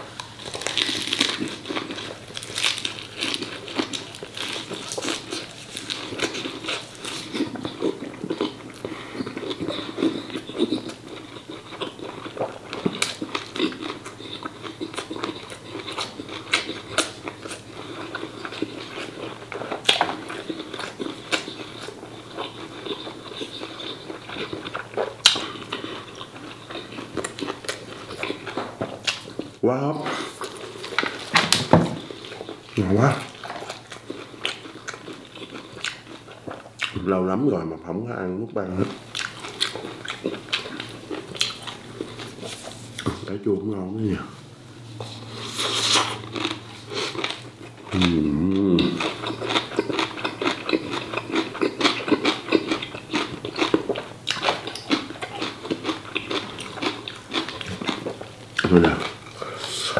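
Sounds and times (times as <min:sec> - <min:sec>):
wet chewing mouth sounds: 0:00.2 - 0:29.6, 0:32.0 - 0:37.0, 0:39.1 - 0:43.3, 0:45.0 - 0:59.9.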